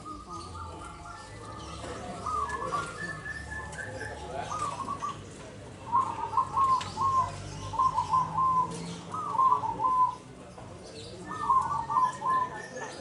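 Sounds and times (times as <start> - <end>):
dove cooing: 0.0 - 10.3, 11.1 - 13.0.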